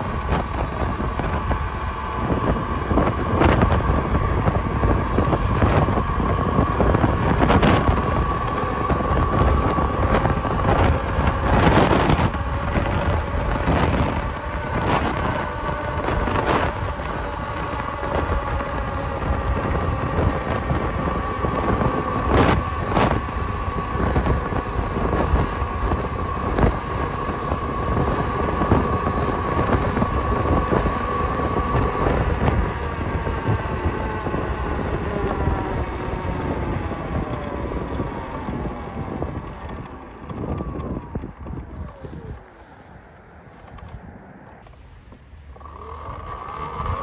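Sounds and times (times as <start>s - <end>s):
electric motor whining: 0.0s - 47.0s
wind on microphone: 0.0s - 47.0s.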